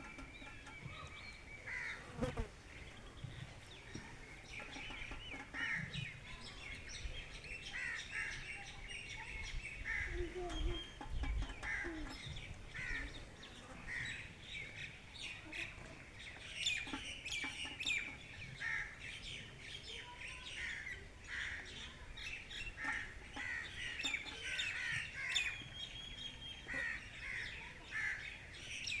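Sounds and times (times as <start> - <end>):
wild birds chirping: 0.0 - 29.0.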